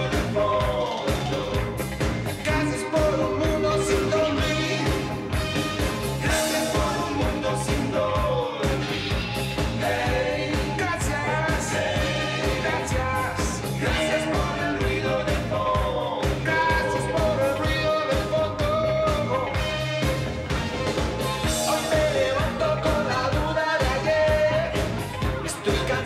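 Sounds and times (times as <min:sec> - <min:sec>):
man singing: 0:00.0 - 0:05.4, 0:06.0 - 0:20.2, 0:21.5 - 0:26.0
pop-rock band playing: 0:00.0 - 0:26.0.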